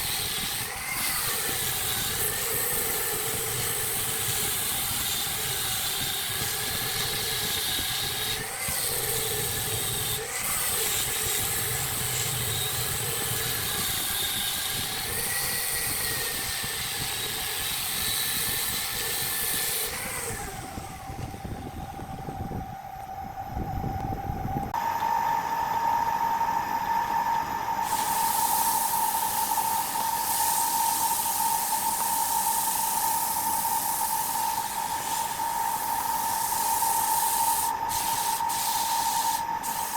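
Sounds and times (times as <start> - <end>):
tool scraping spinning wood: 0.0 - 22.6, 27.8 - 39.9
lathe motor whine: 0.0 - 39.9.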